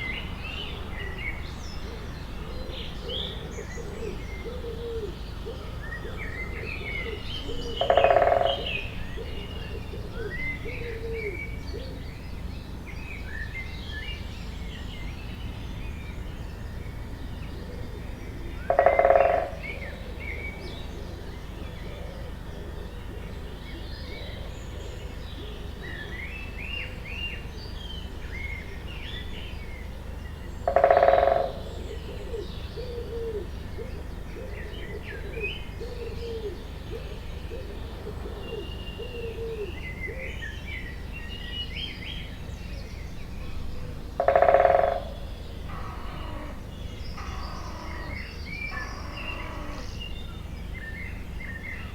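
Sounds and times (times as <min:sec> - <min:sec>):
small birds chirping and trilling: 0:00.0 - 0:51.9.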